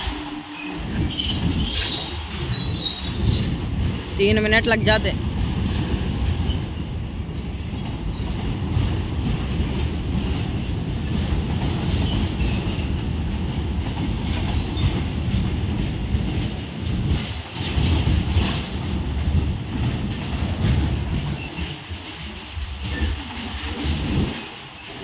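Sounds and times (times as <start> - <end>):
wheels clacking over rail joints: 0.0 - 4.5, 5.2 - 25.0
steel wheels rumbling on rails: 0.0 - 25.0.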